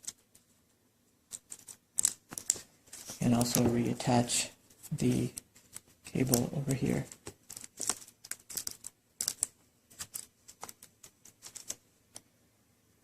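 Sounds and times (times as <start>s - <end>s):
hands handling laptop parts: 1.3s - 12.3s.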